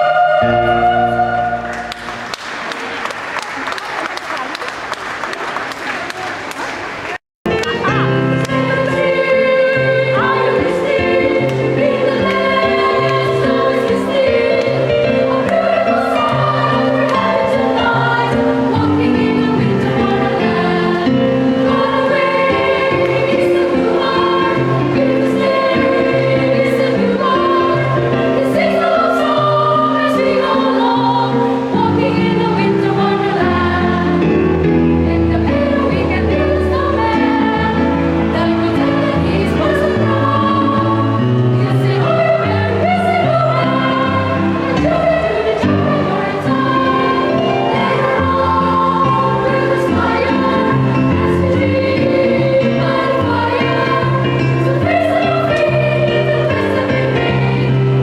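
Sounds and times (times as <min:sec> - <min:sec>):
children's choir singing: 0:00.0 - 0:03.9, 0:05.4 - 0:58.0.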